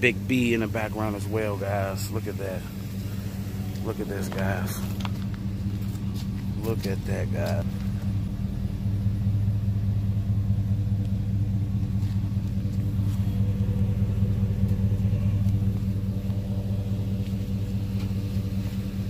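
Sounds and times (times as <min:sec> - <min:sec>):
van engine idling: 0:00.0 - 0:19.0.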